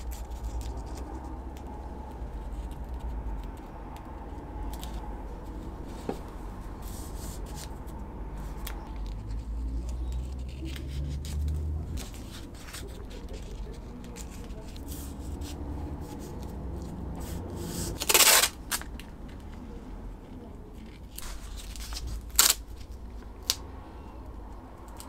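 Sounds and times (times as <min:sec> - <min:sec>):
paper tape crinkling and rubbing: 0:00.0 - 0:19.6, 0:20.2 - 0:23.6
steady low rumble: 0:00.0 - 0:25.0.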